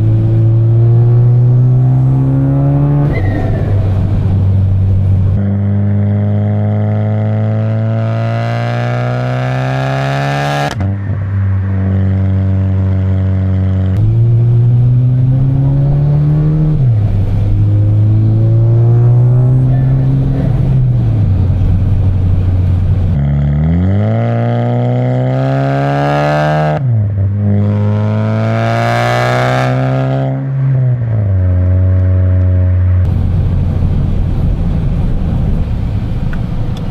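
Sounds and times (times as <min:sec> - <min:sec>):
car exhaust accelerating: 0:00.0 - 0:36.9.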